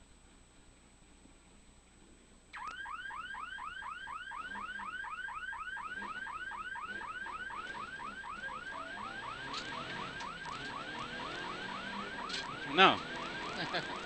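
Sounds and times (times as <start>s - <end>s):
electronic alarm rising chirps: 2.5s - 14.0s.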